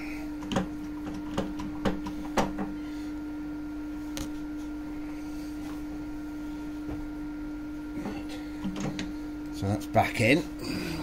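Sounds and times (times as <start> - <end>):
machinery electrical hum: 0.0 - 11.0.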